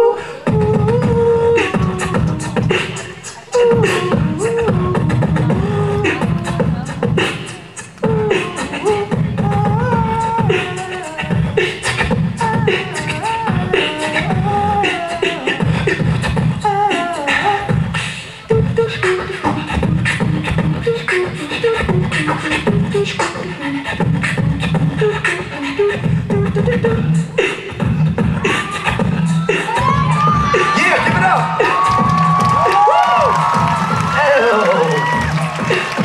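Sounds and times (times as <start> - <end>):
beatboxing beat: 0.0 - 36.0
wordless vocal melody: 0.0 - 36.0.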